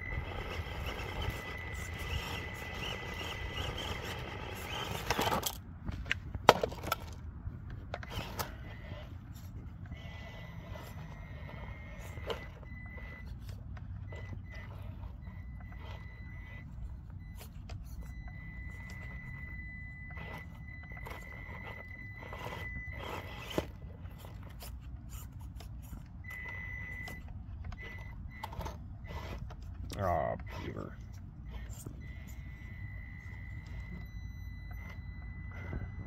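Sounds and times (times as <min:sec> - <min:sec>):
toy car motor whining: 0:00.0 - 0:05.6, 0:07.9 - 0:36.0.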